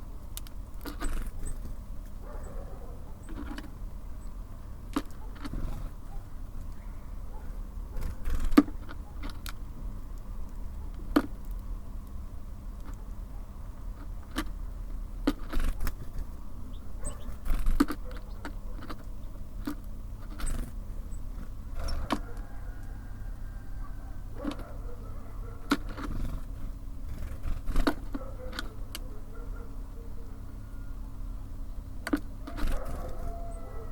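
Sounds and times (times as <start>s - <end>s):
steady low rumble: 0.0s - 32.5s
birds pecking on wooden feeder: 0.3s - 2.2s, 2.9s - 3.8s, 4.6s - 6.8s, 7.4s - 30.2s, 32.0s - 33.9s.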